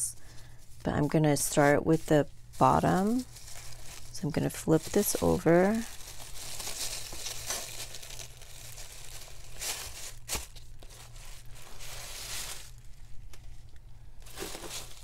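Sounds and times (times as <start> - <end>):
plastic and paper rustling: 0.2 - 15.0.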